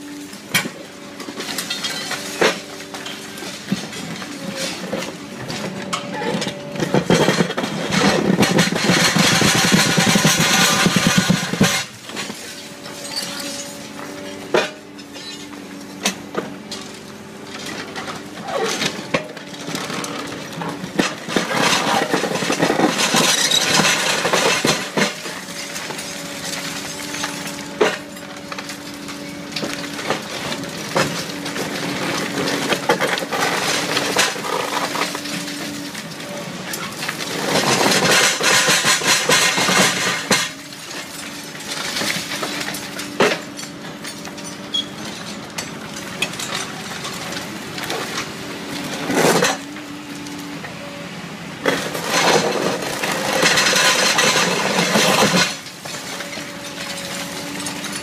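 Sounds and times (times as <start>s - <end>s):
excavator engine hum: 0.0s - 58.0s
concrete cracking and crunching: 0.5s - 15.5s, 17.5s - 49.8s, 51.6s - 58.0s.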